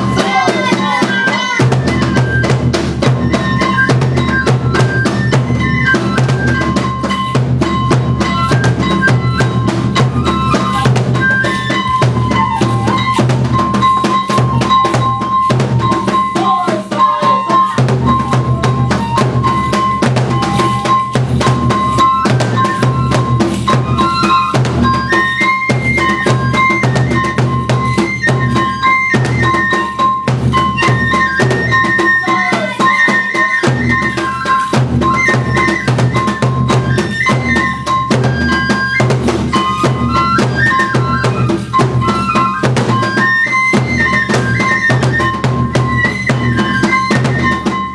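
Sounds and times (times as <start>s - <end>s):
bamboo flute melody: 0.0s - 47.9s
drum beaten in fast rhythm: 0.0s - 47.9s.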